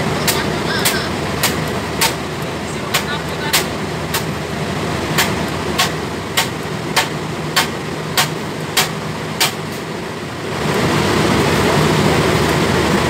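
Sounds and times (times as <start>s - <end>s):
chiller humming: 0.0s - 13.0s.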